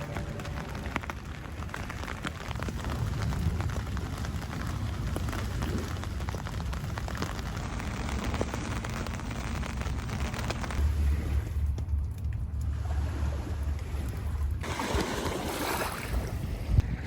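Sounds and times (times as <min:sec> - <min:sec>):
rain patter: 0:00.0 - 0:16.9
low wind rumble: 0:00.0 - 0:17.0.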